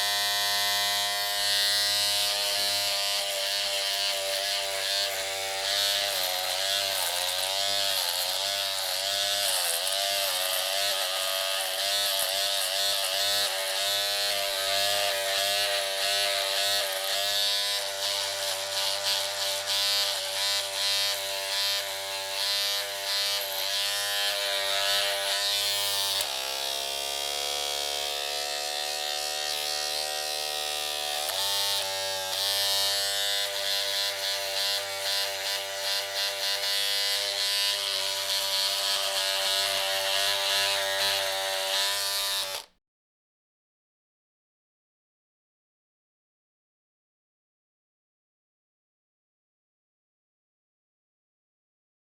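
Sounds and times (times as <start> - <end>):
electric razor buzzing: 0.0 - 42.8.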